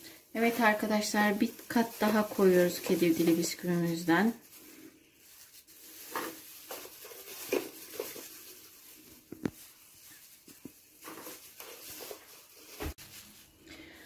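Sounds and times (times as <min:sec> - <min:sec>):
faint handling sounds: 0:00.0 - 0:14.0.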